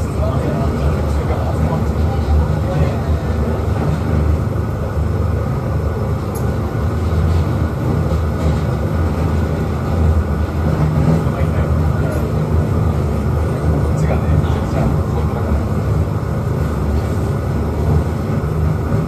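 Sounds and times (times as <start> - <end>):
train wheels and motor rumbling: 0.0 - 19.0.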